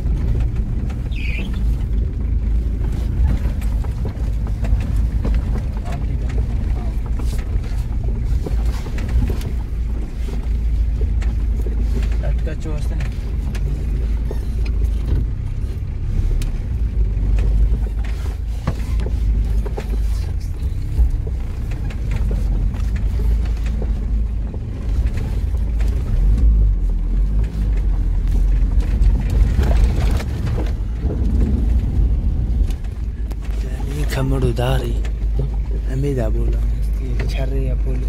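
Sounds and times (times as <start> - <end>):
engine and road rumble: 0.0 - 38.0
knocks and rattles: 0.0 - 38.0.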